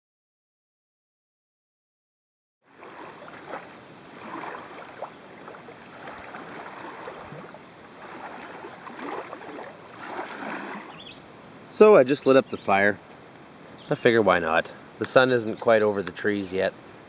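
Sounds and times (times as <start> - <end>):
small waves lapping on shore: 2.6 - 17.0.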